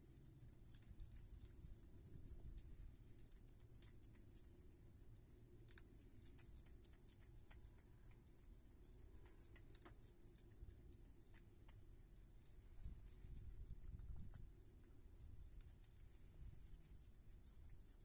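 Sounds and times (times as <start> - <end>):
animal chewing wet food: 0.0 - 18.0.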